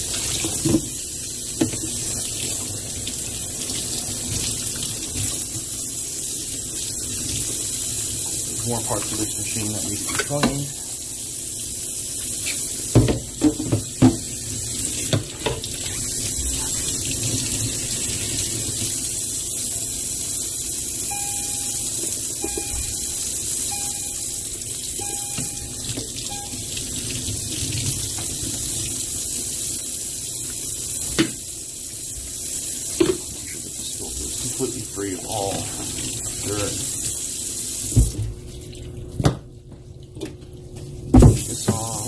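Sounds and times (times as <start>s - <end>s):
faucet running into sink: 0.0s - 42.0s.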